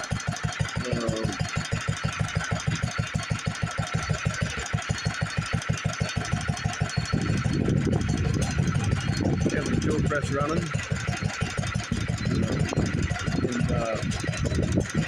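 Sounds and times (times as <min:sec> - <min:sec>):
stationary engine running: 0:00.0 - 0:15.0.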